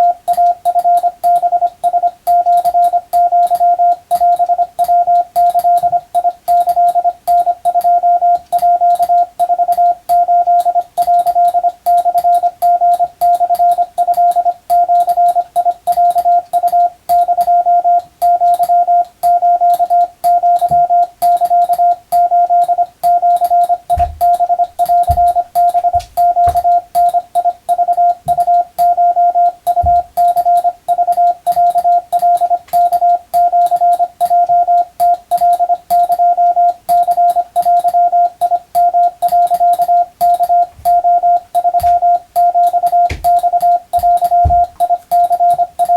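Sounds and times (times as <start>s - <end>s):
morse code tone: 0.0s - 45.9s.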